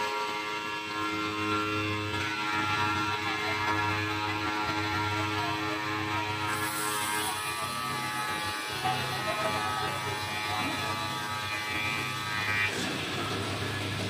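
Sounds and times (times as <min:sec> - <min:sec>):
tile saw buzzing whine: 0:00.0 - 0:14.0.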